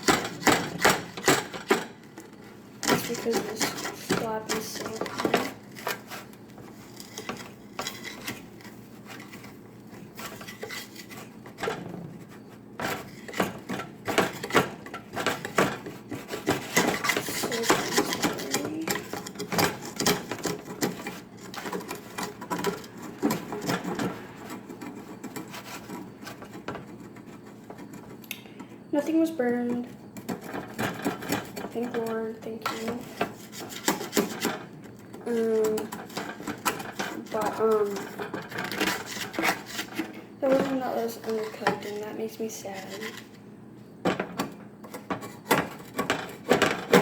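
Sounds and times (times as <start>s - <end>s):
tray being scraped: 0.0s - 28.2s, 28.9s - 43.4s, 44.1s - 47.0s.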